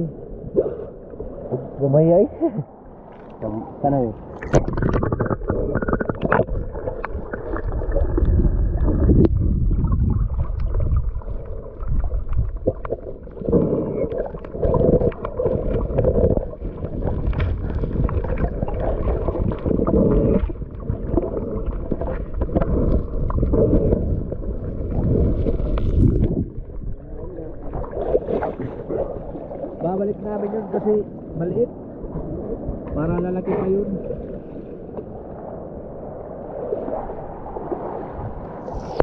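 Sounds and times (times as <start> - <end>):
underwater rumble and gurgling: 0.0 - 39.0.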